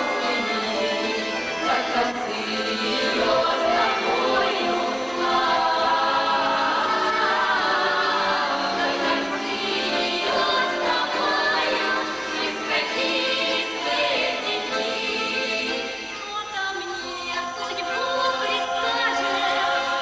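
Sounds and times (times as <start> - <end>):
female choir singing in harmony: 0.0 - 20.0.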